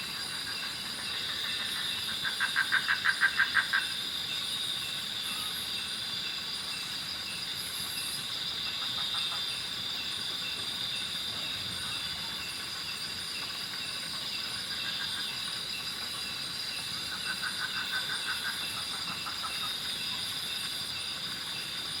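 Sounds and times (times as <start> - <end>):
insect chirps: 0.0 - 22.0
insect high-pitched drone: 0.0 - 22.0
lower pulsing insect calls: 0.0 - 22.0.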